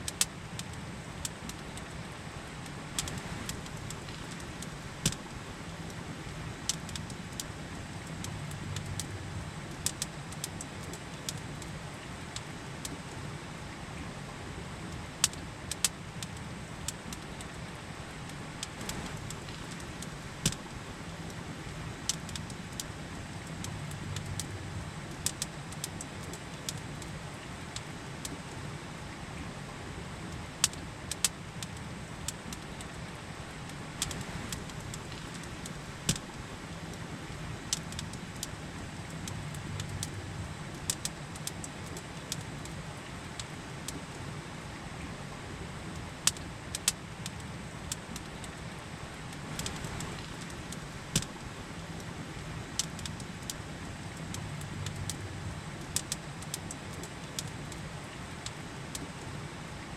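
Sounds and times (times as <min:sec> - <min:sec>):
campfire crackling and popping: 0:00.0 - 0:13.2, 0:14.8 - 0:28.6, 0:30.3 - 0:44.2, 0:45.8 - 0:59.3.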